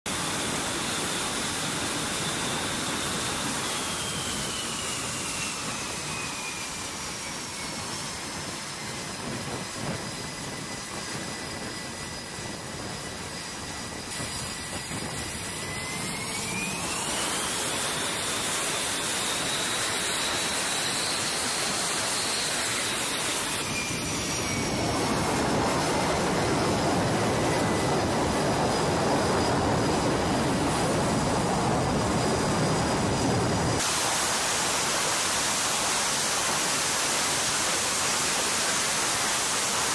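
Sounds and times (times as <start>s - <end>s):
high turbine whine: 0.1s - 39.9s
jet engines roaring: 0.1s - 39.9s.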